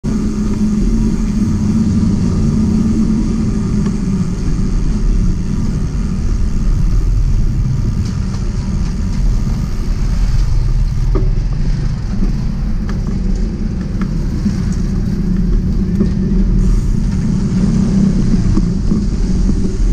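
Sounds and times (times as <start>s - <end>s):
bike tyres rumbling on concrete: 0.0s - 19.9s
motorcycle engines: 0.0s - 19.9s
wind on microphone: 0.0s - 19.9s.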